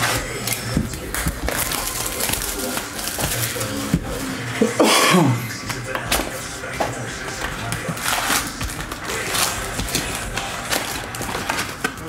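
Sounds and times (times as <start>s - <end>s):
packs knocking against cardboard: 0.0s - 4.6s, 5.6s - 12.0s
plastic wrappers crinkling: 0.0s - 4.8s, 5.5s - 12.0s.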